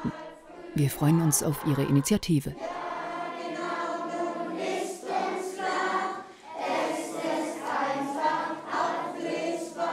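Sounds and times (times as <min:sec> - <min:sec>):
children's choir singing: 0:00.0 - 0:09.9.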